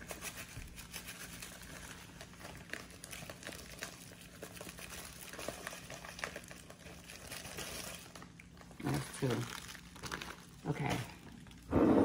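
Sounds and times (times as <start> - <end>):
plastic bag rustling: 0.0 - 11.8.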